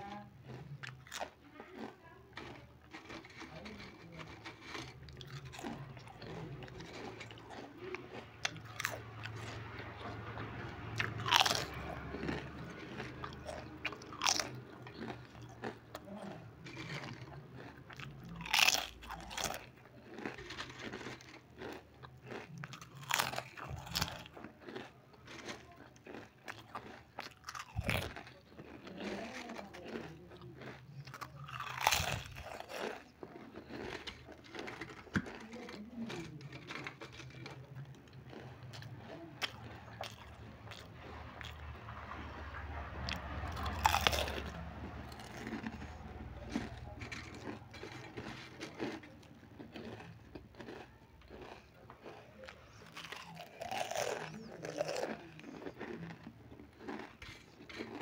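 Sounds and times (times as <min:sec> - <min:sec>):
soft crackling chews: 0:00.0 - 0:58.0
crunch of chip bite: 0:00.5 - 0:09.6, 0:11.0 - 0:41.6, 0:43.1 - 0:58.0.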